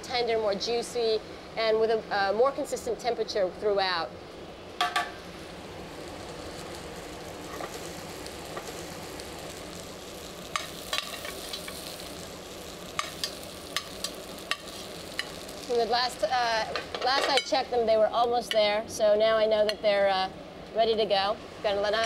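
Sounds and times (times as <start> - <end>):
potatoes sizzling in a pan: 0.0 - 19.7.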